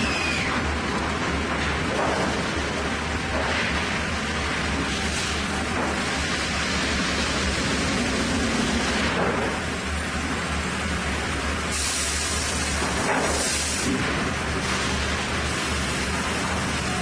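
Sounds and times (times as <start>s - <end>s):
sawmill machinery: 0.0s - 17.0s.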